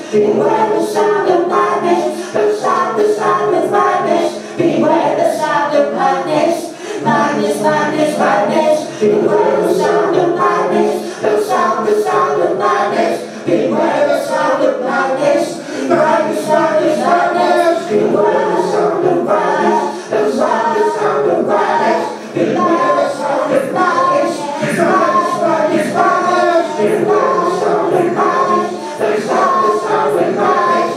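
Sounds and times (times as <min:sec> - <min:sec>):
voices singing and chanting: 0:00.0 - 0:30.9.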